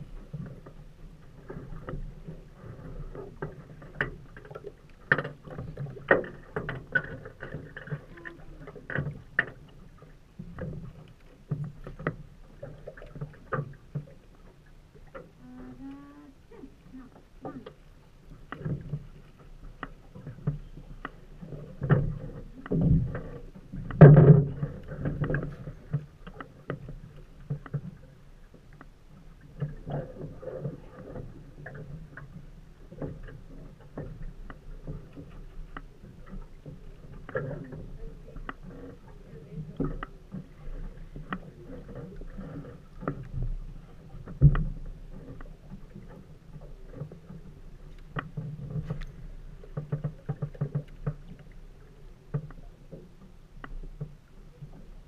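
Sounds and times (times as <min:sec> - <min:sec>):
water lapping against boat hull: 0:00.0 - 0:55.0.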